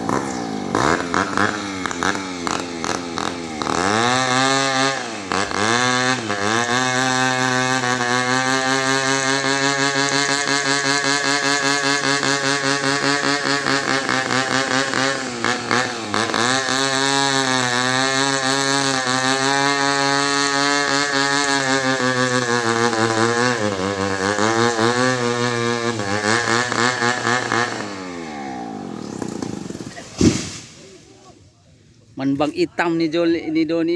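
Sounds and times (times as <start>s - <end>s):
chainsaw cutting wood: 0.0s - 31.1s.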